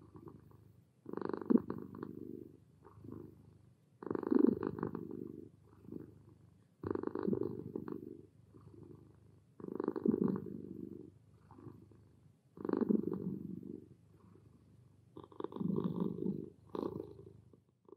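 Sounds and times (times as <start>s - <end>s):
kitten purring: 0.0s - 17.9s.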